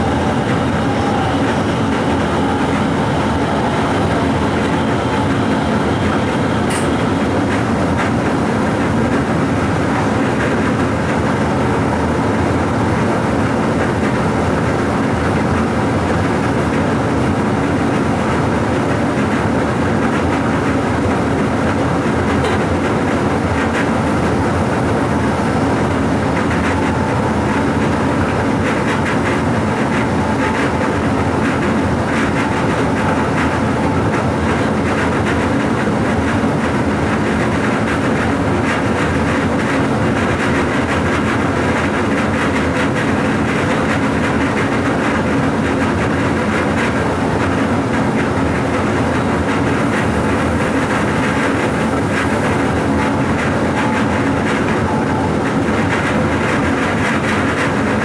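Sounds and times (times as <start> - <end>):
train running on rails: 0.0 - 58.0.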